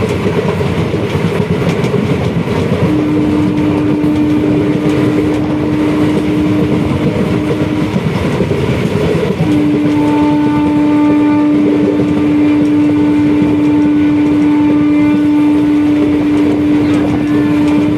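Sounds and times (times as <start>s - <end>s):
strong steady hum: 0.0s - 17.9s
train rumbling: 0.0s - 17.9s.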